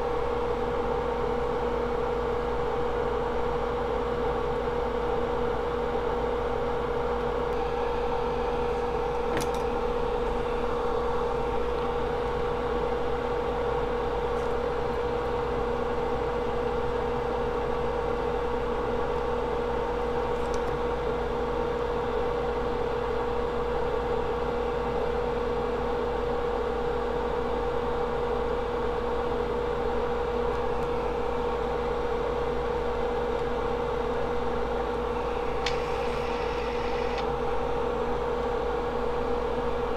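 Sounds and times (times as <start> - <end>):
electrical equipment hum: 0.0 - 39.9.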